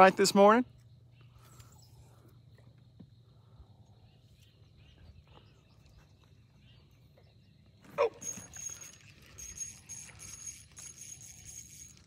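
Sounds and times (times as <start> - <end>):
faint chirps: 0.7 - 12.0.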